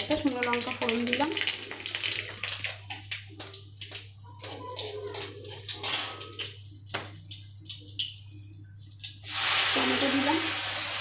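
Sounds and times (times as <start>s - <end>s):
seeds spluttering in hot oil: 0.0s - 11.0s.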